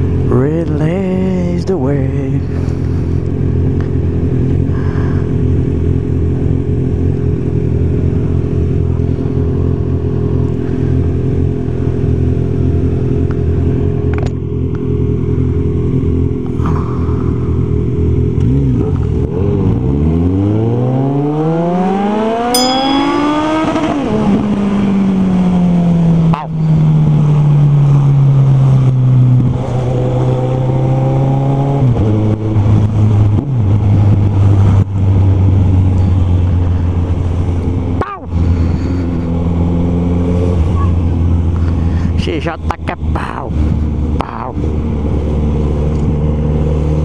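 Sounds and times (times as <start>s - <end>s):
motorcycle engine idling and revving: 0.0s - 47.0s.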